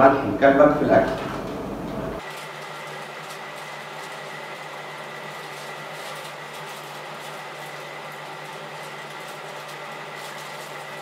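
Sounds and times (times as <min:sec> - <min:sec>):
mechanical hum with high whine: 0:00.0 - 0:11.0.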